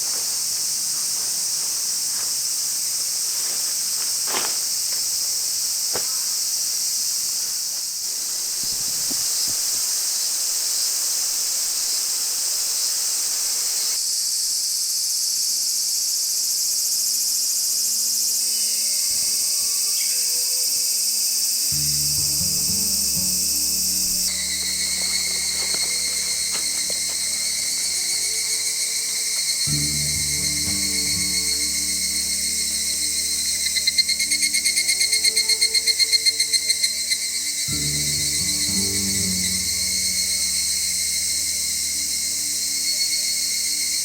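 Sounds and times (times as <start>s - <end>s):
high-pitched insect chorus: 0.0s - 44.0s.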